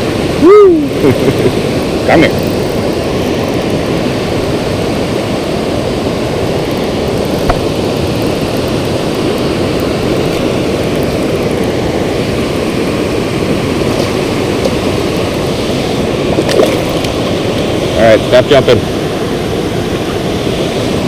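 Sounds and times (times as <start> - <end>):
water rushing through spillway: 0.0 - 21.0.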